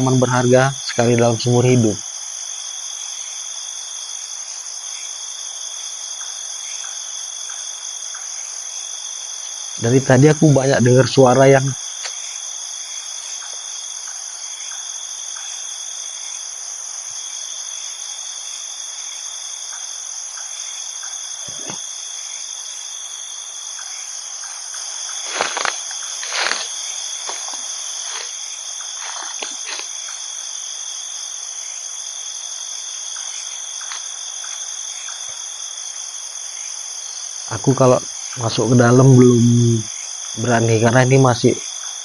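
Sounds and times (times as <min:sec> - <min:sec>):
crickets trilling: 0:00.0 - 0:42.0.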